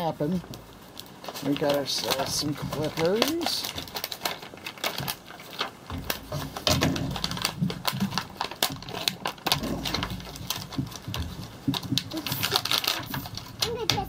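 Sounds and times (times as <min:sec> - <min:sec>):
plastic packaging snapping and crackling: 0:00.0 - 0:14.0
clippers snipping plastic packaging: 0:01.0 - 0:14.0.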